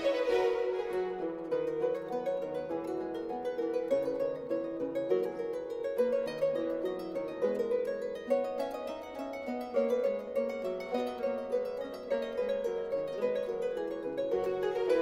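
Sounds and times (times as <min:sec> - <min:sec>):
harp playing baroque music: 0:00.0 - 0:15.0.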